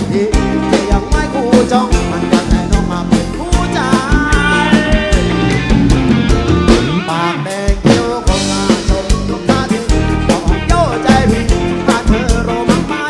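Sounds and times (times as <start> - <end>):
pop song with singing and band: 0.0 - 13.0.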